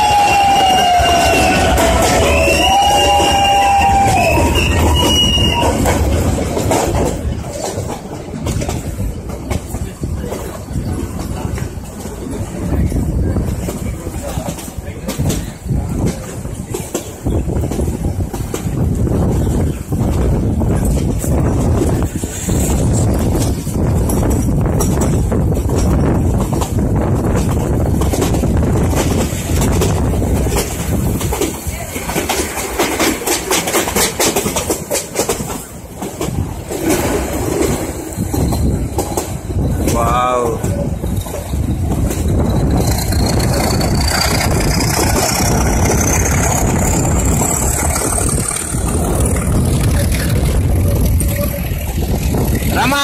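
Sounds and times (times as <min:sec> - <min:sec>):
train carriage rumbling: 0:00.0 - 0:53.0
wheels clattering over rails: 0:00.0 - 0:53.0
wind buffeting microphone: 0:00.0 - 0:53.0.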